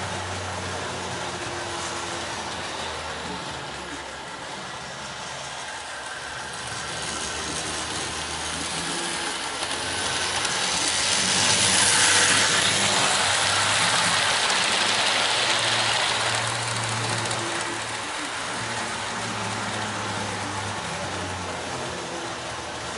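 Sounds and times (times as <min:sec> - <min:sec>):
model train rolling on track: 0:00.0 - 0:22.9.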